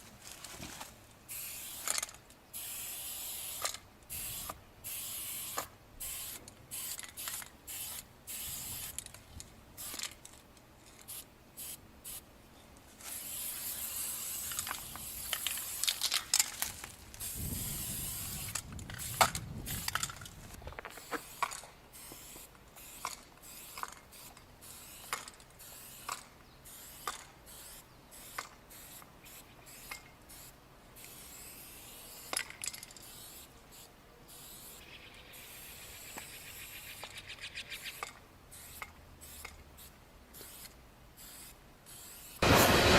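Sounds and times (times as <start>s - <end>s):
spray paint can hissing: 1.3s - 9.2s, 9.8s - 10.3s, 10.9s - 12.2s, 13.0s - 37.1s, 37.9s - 42.9s.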